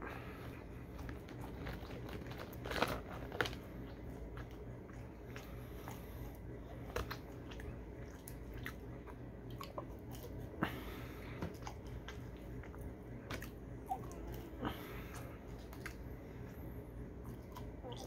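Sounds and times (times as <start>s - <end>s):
chewing french fries: 0.0s - 18.0s.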